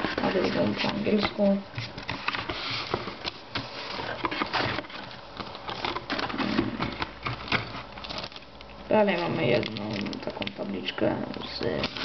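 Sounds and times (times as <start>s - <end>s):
plastic crinkling: 2.0s - 12.0s.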